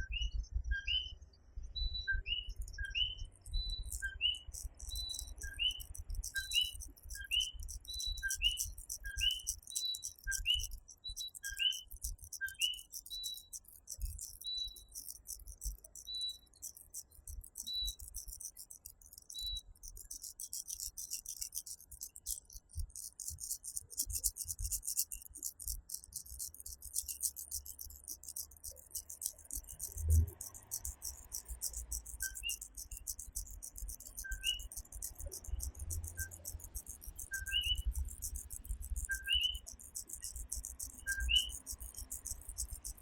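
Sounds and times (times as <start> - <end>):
high-pitched insect trill: 2.5 - 43.0
tree frogs calling: 3.8 - 42.3.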